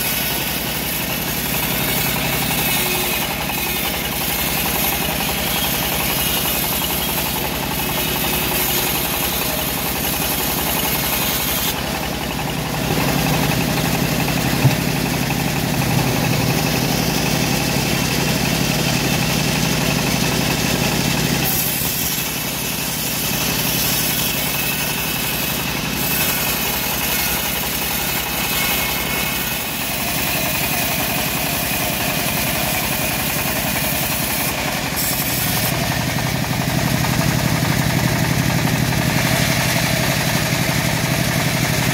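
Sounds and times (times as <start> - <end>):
bandsaw mill cutting log: 0.0 - 41.9.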